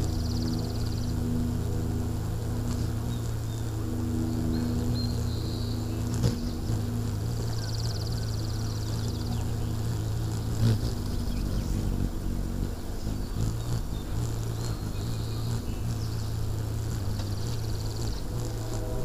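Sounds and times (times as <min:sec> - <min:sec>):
buzzy high-pitched trills: 0:00.0 - 0:19.0
hum of hummingbird wings: 0:00.0 - 0:19.0.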